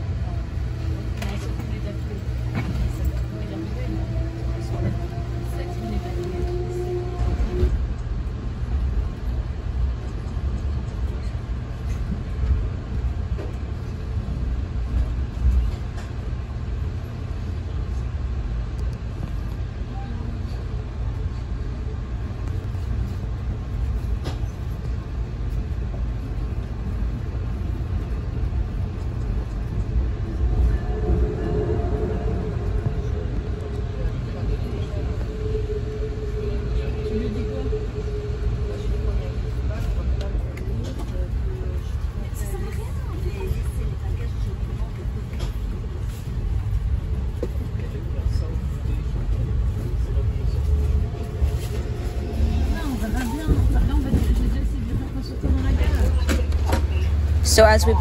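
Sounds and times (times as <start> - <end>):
train rumble inside carriage: 0.0 - 58.0.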